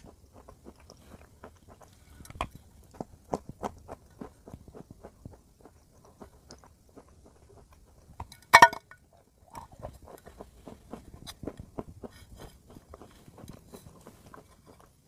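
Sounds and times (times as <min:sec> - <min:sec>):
clay block being chewed: 0:00.0 - 0:08.5, 0:09.5 - 0:15.0.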